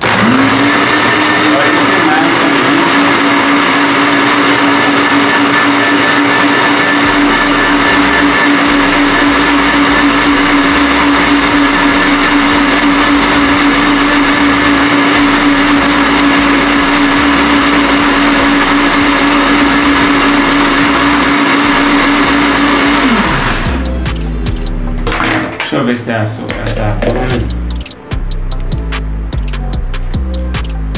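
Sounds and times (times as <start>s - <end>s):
blender motor whine: 0.0s - 24.9s.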